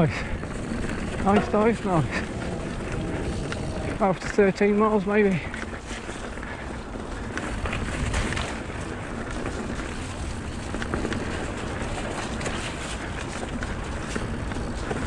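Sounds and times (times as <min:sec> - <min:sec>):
bike clicks and rattles: 0:00.0 - 0:15.0
bike tyre rumble on dirt: 0:00.0 - 0:15.0
wind buffeting microphone: 0:00.0 - 0:15.0.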